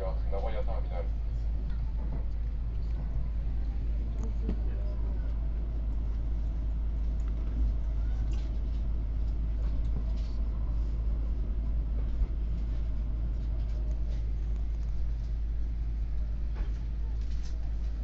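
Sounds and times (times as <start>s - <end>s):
train interior low rumble: 0.0s - 18.0s.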